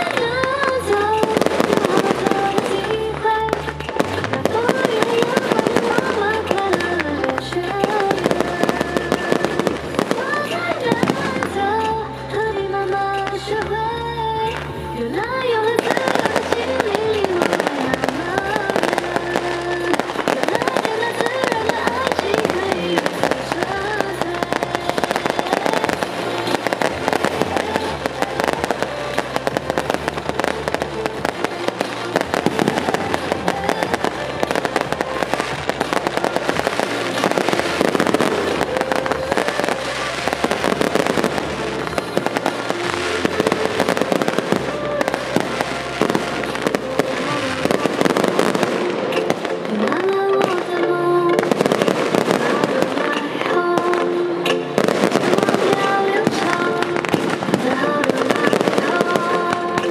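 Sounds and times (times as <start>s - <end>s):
fireworks crackling and popping: 0.0s - 59.9s
show music: 0.0s - 59.9s.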